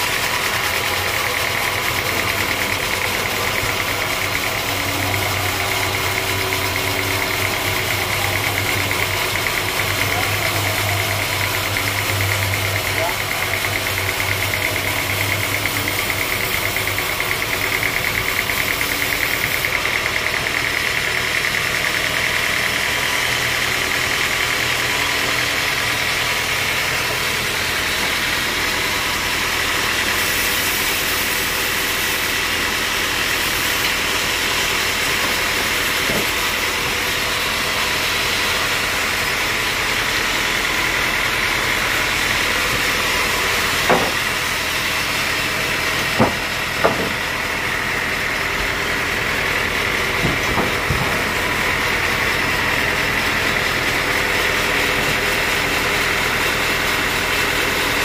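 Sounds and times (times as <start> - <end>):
band sawmill drone with high whine: 0.0 - 58.0.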